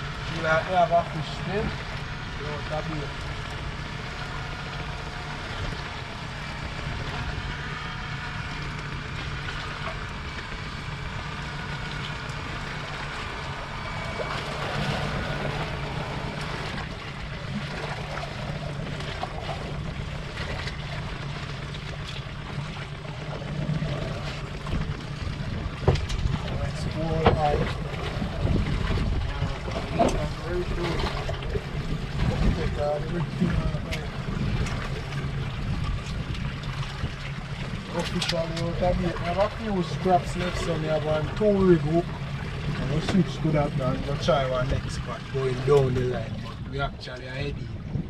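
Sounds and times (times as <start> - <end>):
boat motor running: 0.0 - 48.0
water noise: 0.0 - 48.0
wind: 0.0 - 48.0.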